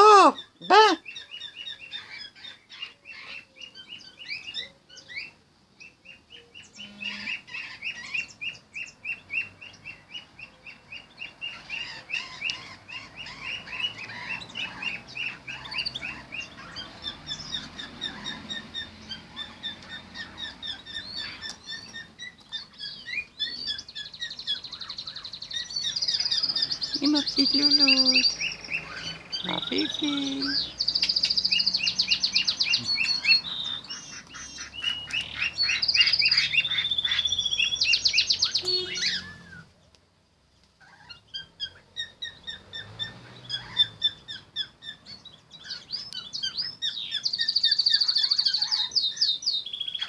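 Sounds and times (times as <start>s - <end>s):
cage birds chirping: 0.0s - 50.0s.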